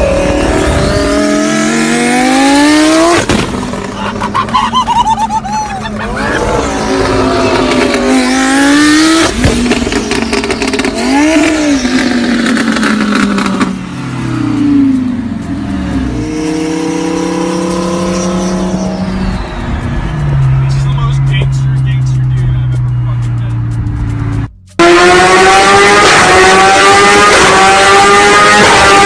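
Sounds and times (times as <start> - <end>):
car engine revving: 0.0 - 29.0
exhaust pops crackling: 0.0 - 29.0.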